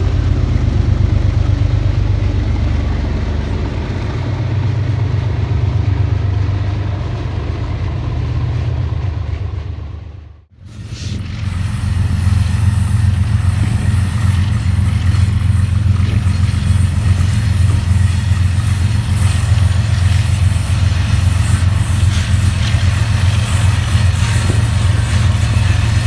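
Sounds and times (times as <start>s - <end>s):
diesel locomotive engine running: 0.0s - 26.0s.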